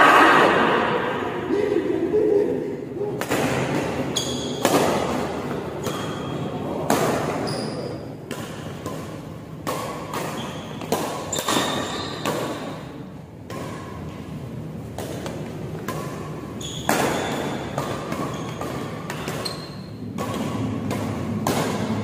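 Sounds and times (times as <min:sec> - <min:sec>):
badminton rackets hitting shuttlecock: 0:03.2 - 0:22.0.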